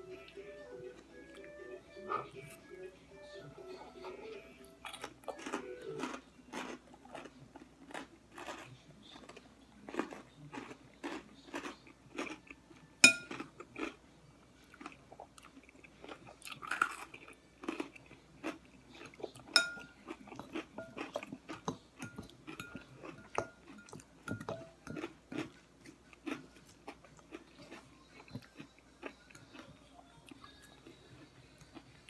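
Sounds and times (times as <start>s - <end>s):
crunchy salad chewing: 4.0s - 14.0s, 14.6s - 32.0s.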